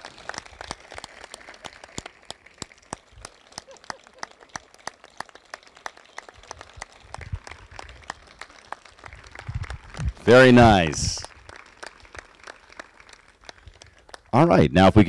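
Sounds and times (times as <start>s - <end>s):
light applause from small crowd: 0.0s - 15.0s.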